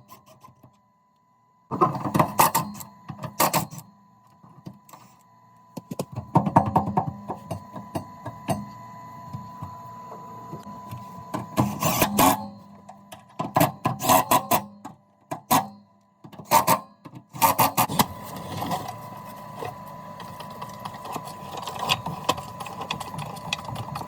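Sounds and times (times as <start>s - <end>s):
faint steady tone and hum: 0.0s - 24.0s.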